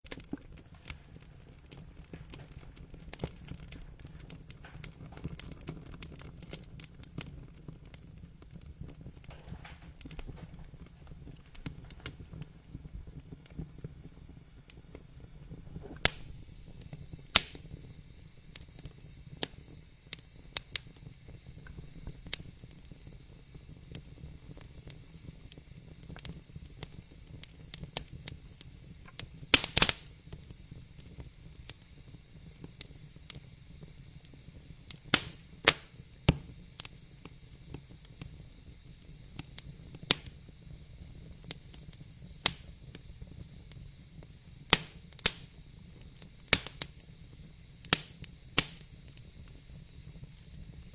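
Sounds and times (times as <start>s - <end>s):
low rumble of flames: 0.0s - 50.9s
wood fire pops and snaps: 0.0s - 50.9s.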